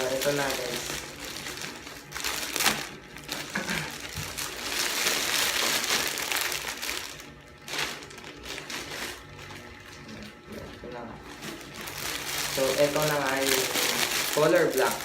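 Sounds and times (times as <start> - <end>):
plastic packaging tearing and crinkling: 0.0 - 10.4, 11.3 - 15.0.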